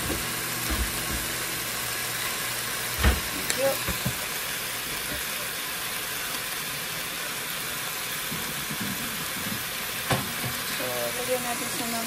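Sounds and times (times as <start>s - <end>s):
chicken sizzling in pot: 0.0s - 12.0s.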